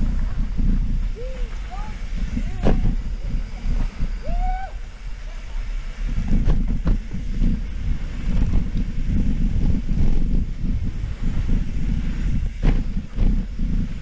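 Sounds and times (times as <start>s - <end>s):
tyres rumbling and bike rattling: 0.0s - 14.0s
wind buffeting microphone: 0.0s - 14.0s.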